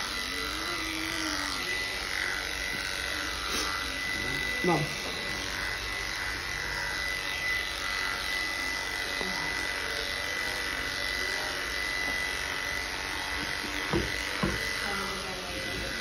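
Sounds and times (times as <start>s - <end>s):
electric pet clippers buzzing: 0.0s - 16.0s.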